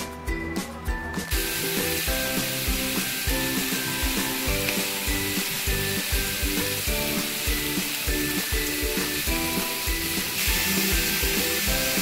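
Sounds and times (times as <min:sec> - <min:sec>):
background music with steady beat: 0:00.0 - 0:12.0
meat sizzling in a grill pan: 0:01.3 - 0:12.0.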